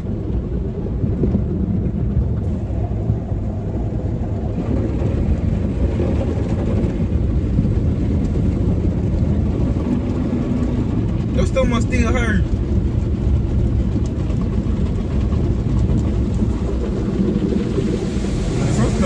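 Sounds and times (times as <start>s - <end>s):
car wash machinery rumbling: 0.0s - 19.0s.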